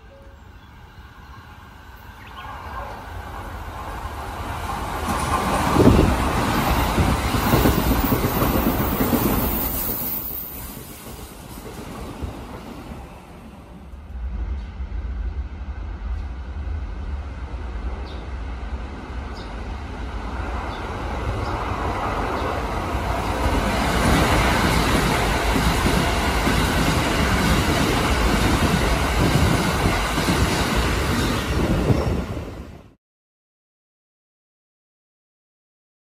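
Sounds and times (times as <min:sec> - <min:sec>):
electric train running past: 0:00.0 - 0:33.0.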